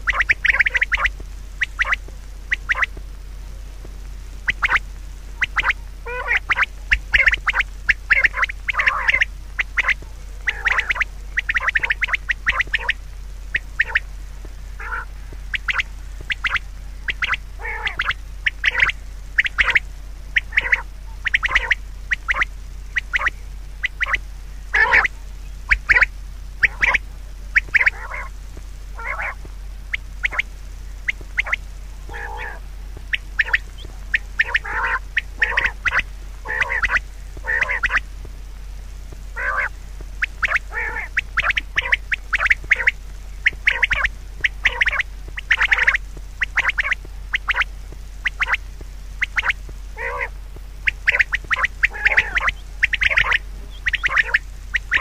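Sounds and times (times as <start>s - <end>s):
birds calling: 0.0s - 55.0s
steady low hum: 0.0s - 55.0s.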